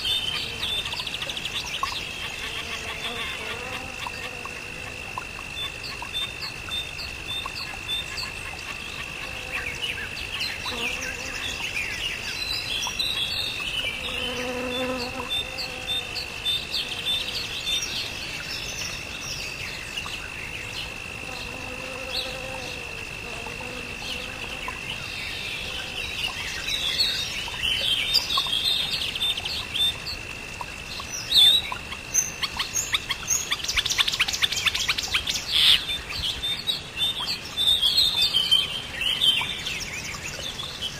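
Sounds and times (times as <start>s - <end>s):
high-pitched insect trill: 0.0s - 40.9s.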